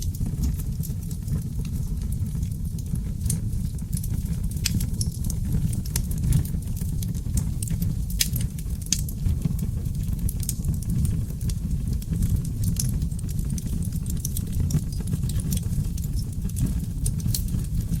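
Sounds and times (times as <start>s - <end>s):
fire flames rumbling: 0.0s - 18.0s
wood fire crackling and popping: 0.0s - 18.0s.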